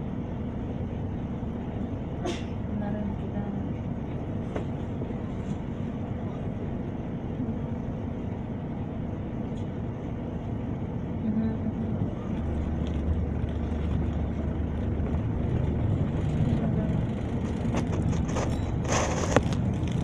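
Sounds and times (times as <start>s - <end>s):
bus engine rumble: 0.0s - 20.0s
bus pulling away hum: 0.0s - 20.0s.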